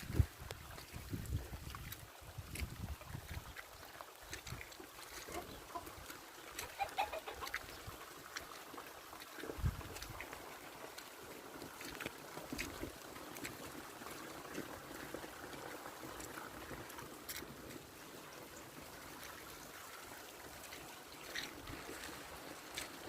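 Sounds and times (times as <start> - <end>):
rain trickling: 0.0 - 23.0
short drips and ticks: 0.0 - 23.0.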